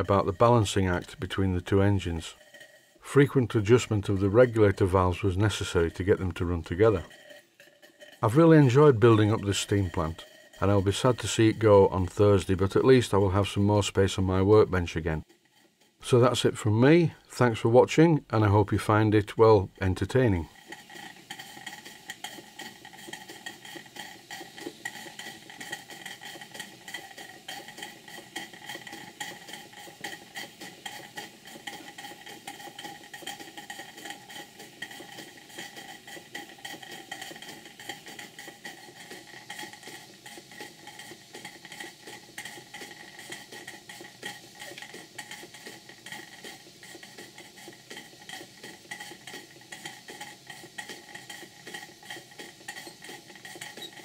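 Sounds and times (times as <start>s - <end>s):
model steam engines clattering: 0.0s - 54.0s.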